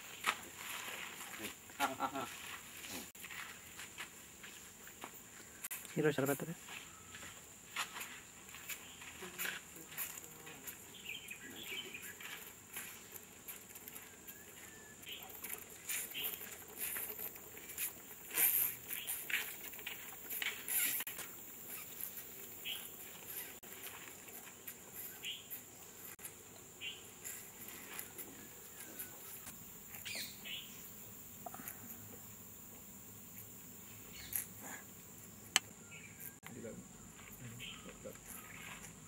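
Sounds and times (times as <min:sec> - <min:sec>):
insects droning: 0:00.0 - 0:39.0
insect chirps and clicks: 0:03.3 - 0:39.0.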